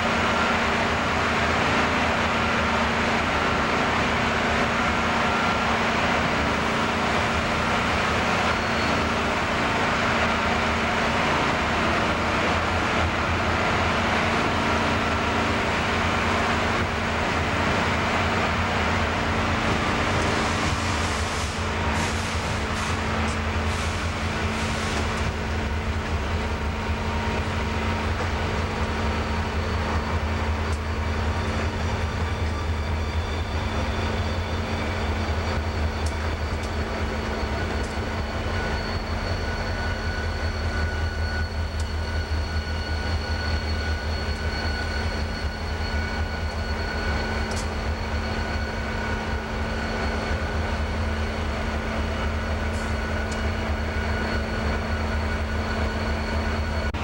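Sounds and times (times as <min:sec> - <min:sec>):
diesel locomotives passing: 0:00.0 - 0:57.0.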